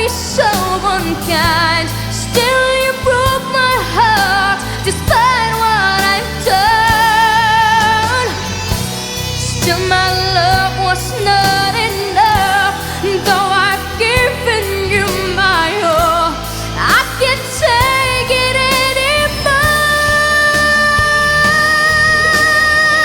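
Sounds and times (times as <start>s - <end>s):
woman singing pop ballad: 0.0s - 23.0s.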